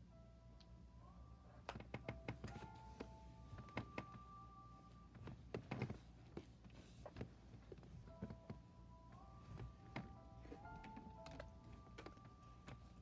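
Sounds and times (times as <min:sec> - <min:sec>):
faint held musical notes: 0:00.0 - 0:13.0.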